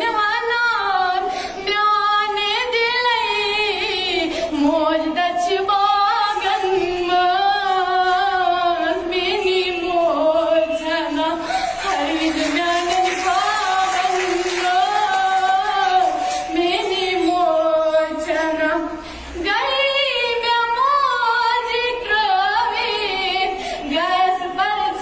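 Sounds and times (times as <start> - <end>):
girl singing unaccompanied: 0.0 - 25.0.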